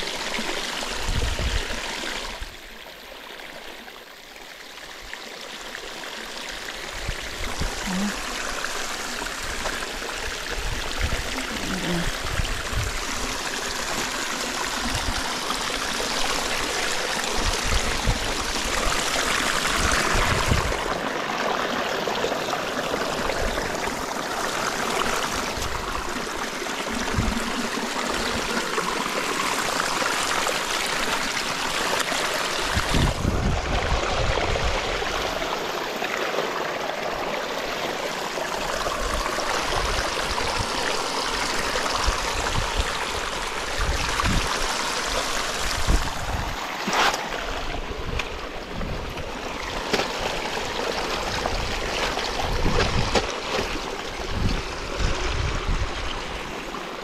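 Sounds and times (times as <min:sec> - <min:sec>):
canal water flowing: 0:00.0 - 0:57.0.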